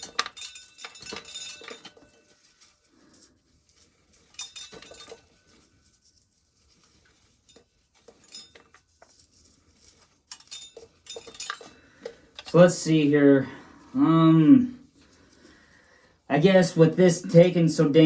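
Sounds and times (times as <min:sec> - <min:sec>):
small hard objects clinking: 0:00.0 - 0:18.0.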